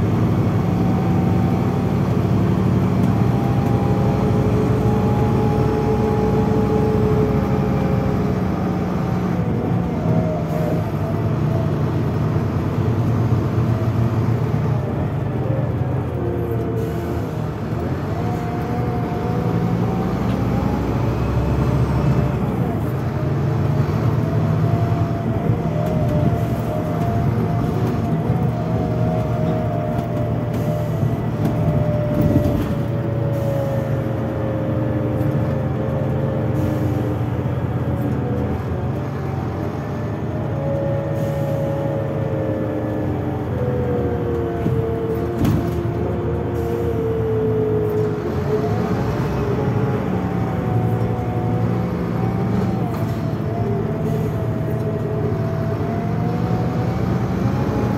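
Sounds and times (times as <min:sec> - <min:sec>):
diesel engine drone: 0:00.0 - 0:57.9.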